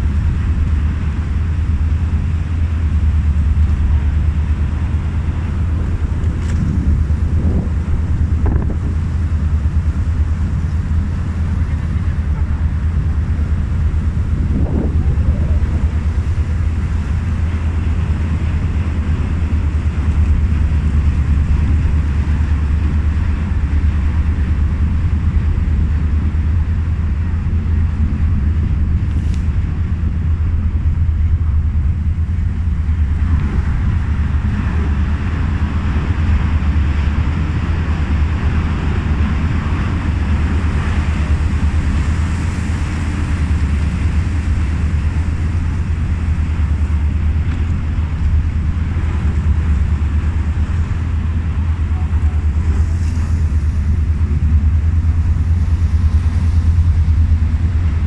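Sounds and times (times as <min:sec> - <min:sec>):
boat breaking through ice: 0:00.0 - 0:58.0
ferry engines rumbling: 0:00.0 - 0:58.0
wind buffeting microphone: 0:00.0 - 0:58.0.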